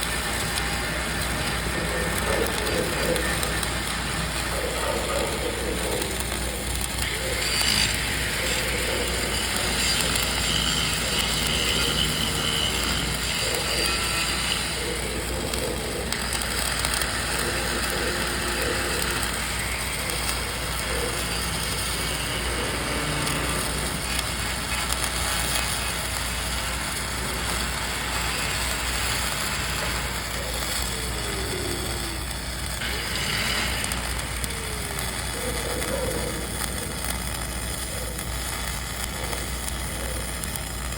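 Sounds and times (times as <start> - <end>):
welding arc crackling and sizzling: 0.0 - 40.9.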